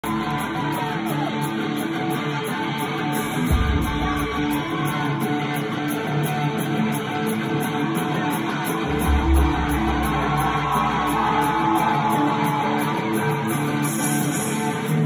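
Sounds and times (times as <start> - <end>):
live pop-punk band playing: 0.0 - 15.0.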